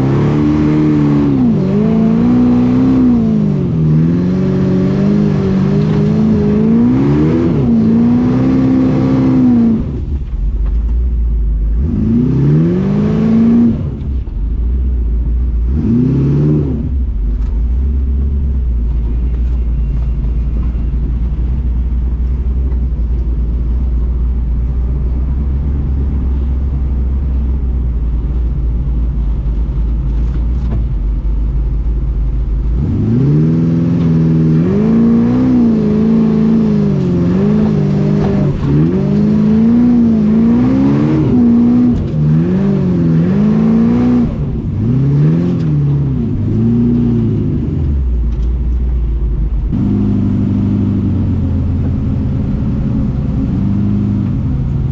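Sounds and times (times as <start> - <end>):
engine droning and revving: 0.0 - 54.9.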